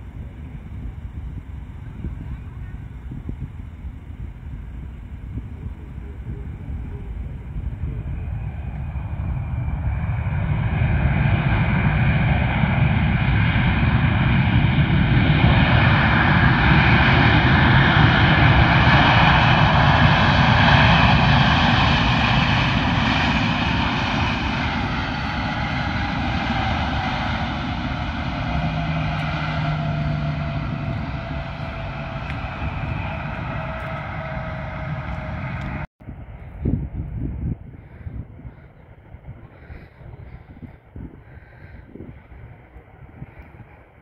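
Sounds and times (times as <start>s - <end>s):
jet engine roar with whine: 0.0s - 44.0s.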